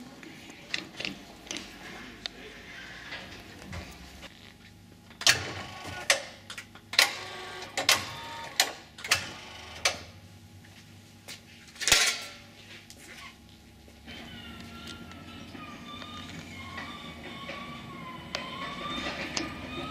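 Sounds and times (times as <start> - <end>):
faint low machine hum: 0.0 - 19.9.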